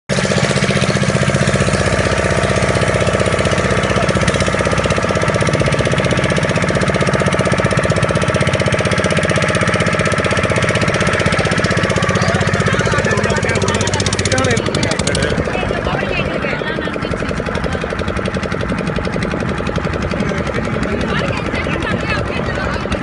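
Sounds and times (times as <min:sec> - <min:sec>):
small boat engine running: 0:00.1 - 0:23.0.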